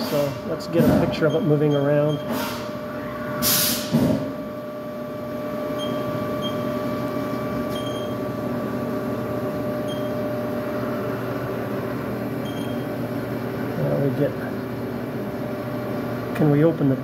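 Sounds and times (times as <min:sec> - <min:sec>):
lathe mechanical hum: 0:00.0 - 0:17.0.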